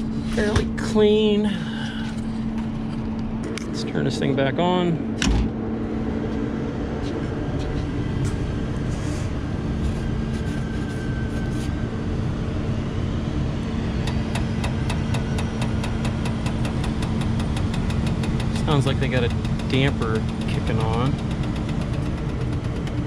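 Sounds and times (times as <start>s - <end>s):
air unit mechanical hum: 0.0s - 23.0s
faint rising whine: 0.0s - 23.0s.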